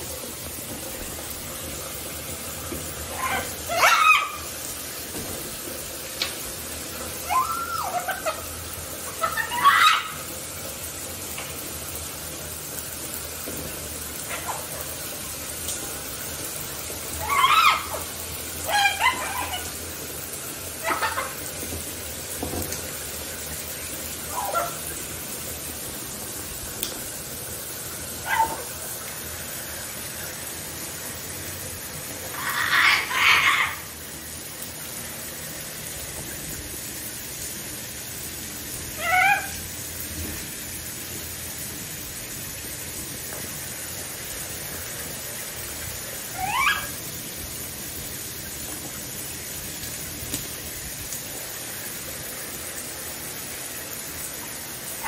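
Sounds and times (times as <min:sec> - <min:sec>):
shower water hissing: 0:00.0 - 0:55.0.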